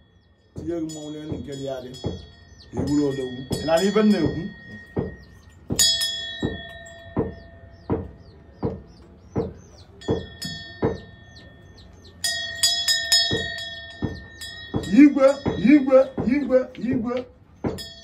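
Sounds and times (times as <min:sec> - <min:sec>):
hand bell ringing: 0:00.0 - 0:07.7, 0:10.0 - 0:16.8, 0:17.8 - 0:18.0.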